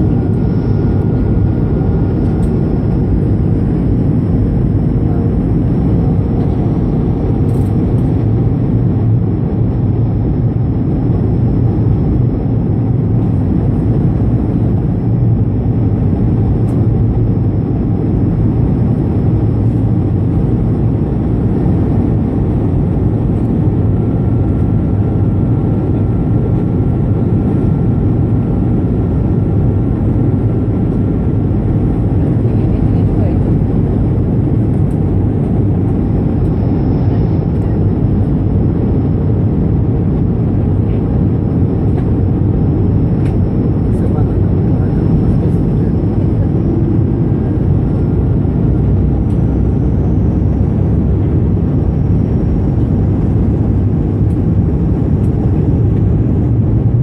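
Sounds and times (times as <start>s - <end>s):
aircraft engines rumbling: 0.0s - 57.0s.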